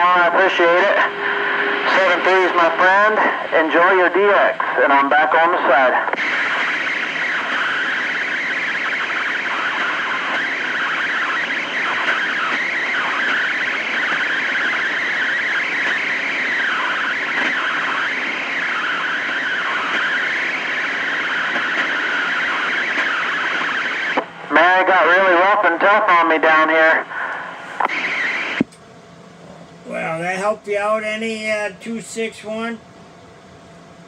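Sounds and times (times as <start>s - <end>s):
radio static hiss: 0.0s - 32.8s
faint wavering radio stations: 0.0s - 34.0s.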